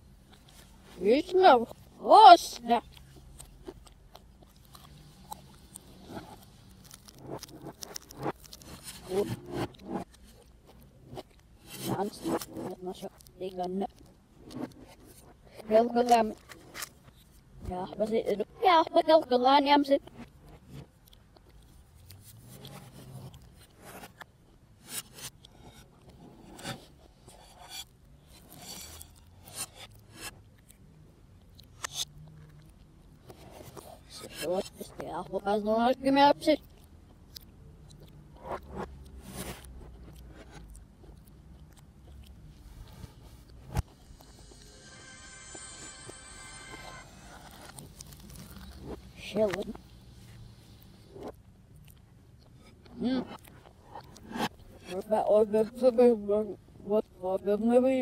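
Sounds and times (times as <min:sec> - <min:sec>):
reversed crackly chewing bursts: 0:00.0 - 0:56.4
pastry crunching: 0:02.5 - 0:17.6, 0:20.0 - 0:35.9, 0:36.5 - 0:55.1.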